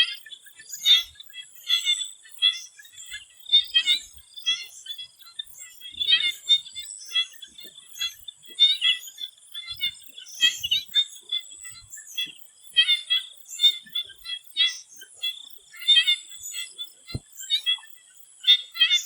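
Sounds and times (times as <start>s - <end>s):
frogs calling: 0.0s - 19.0s.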